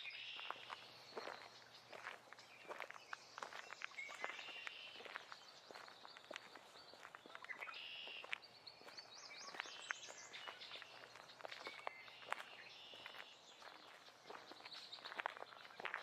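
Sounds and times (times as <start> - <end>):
birds singing: 0.0 - 16.0
footsteps on forest floor: 0.0 - 16.0.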